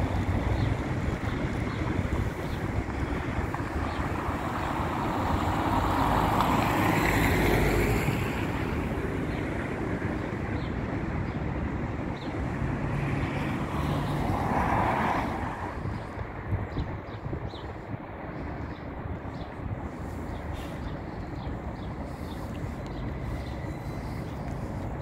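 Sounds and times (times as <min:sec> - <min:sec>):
trolleybus running noise: 0:00.0 - 0:25.0.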